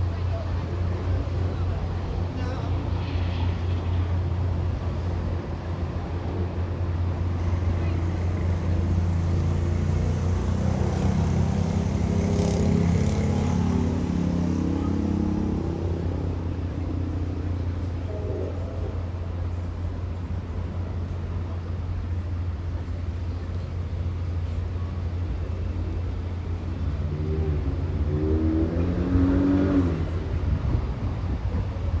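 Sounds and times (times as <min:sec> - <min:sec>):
diesel locomotive engine rumbling: 0:00.0 - 0:32.0.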